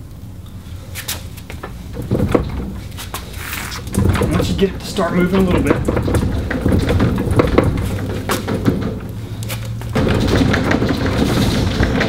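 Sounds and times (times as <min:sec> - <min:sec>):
low steady hum: 0:00.0 - 0:12.0
metal gear case knocking and clunking: 0:01.6 - 0:03.2, 0:03.8 - 0:12.0.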